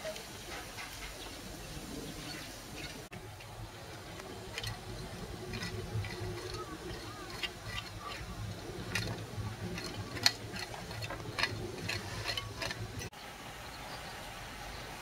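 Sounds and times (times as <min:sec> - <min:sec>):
low background noise: 0:00.0 - 0:15.0
trowel scraping soil and stones: 0:00.1 - 0:13.1.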